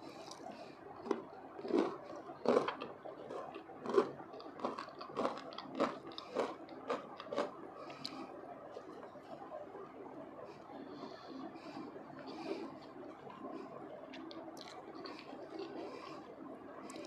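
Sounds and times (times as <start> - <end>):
chewing crispy fried potatoes: 0.1 - 9.2, 10.9 - 17.0.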